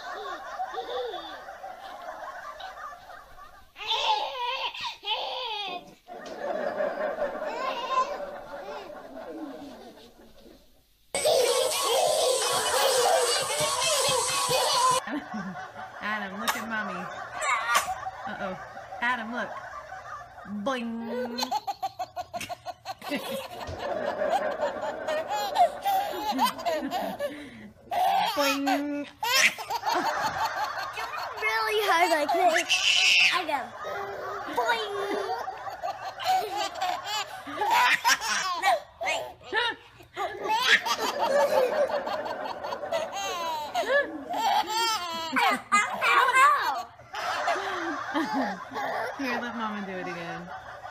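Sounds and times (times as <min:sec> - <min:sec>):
people laughing: 0:00.0 - 0:04.6, 0:06.1 - 0:10.6, 0:11.2 - 0:38.7, 0:39.5 - 0:50.9.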